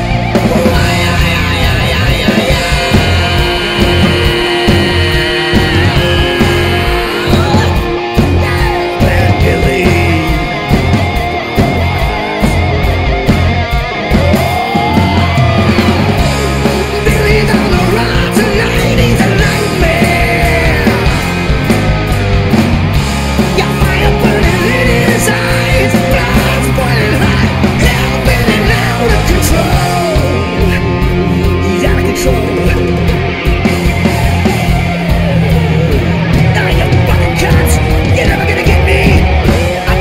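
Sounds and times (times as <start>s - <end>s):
hard rock band playing live: 0.0s - 40.0s
lead guitar bending lines: 0.0s - 40.0s.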